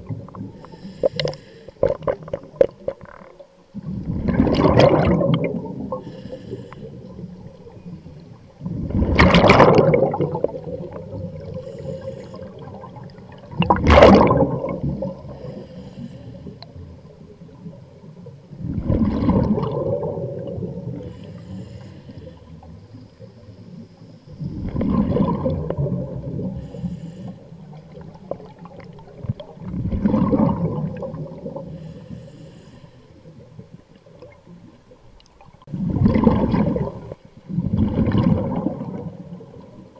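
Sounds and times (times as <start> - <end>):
quiet hiss: 0.0 - 39.9
underwater breathing bubbles: 0.0 - 39.9.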